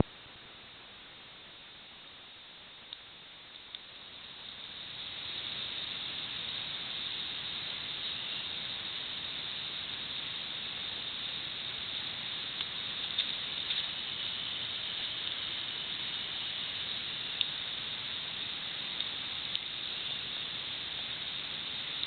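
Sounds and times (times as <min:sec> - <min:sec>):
campfire hissing: 0:00.0 - 0:22.0.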